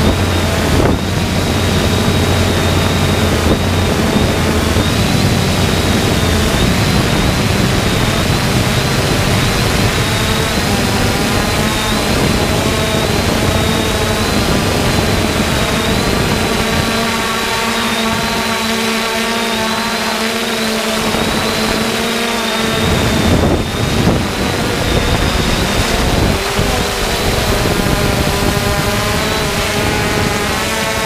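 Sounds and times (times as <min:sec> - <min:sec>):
drone propellers whirring: 0:00.0 - 0:31.0.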